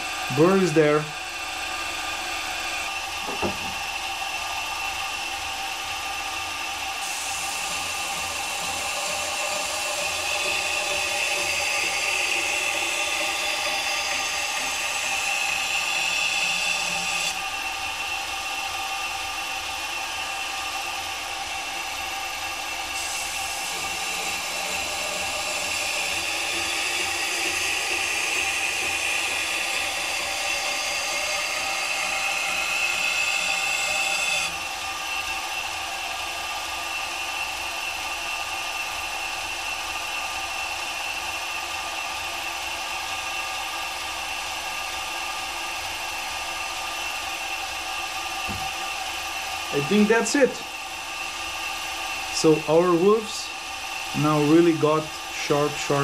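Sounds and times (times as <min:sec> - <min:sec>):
belt grinder motor whine: 0:00.0 - 0:56.0.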